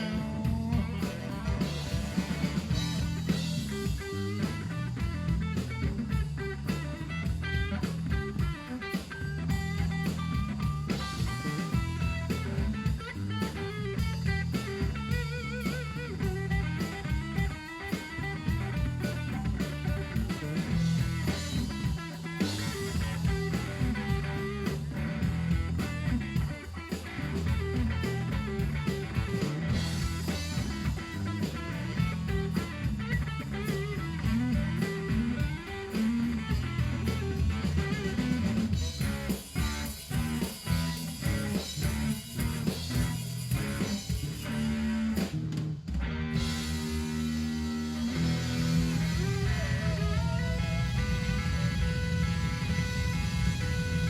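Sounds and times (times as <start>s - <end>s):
blues guitar lead: 0.0s - 54.0s
drum kit: 0.0s - 54.0s
low steady groove: 0.0s - 54.0s.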